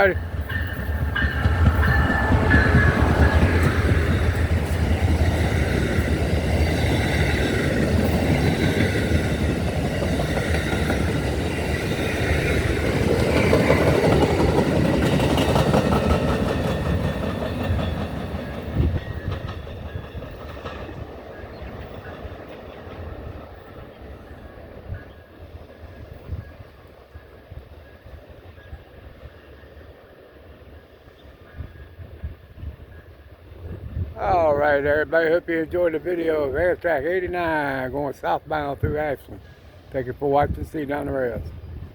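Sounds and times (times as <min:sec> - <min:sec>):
train cars rolling past: 0:00.0 - 0:41.9.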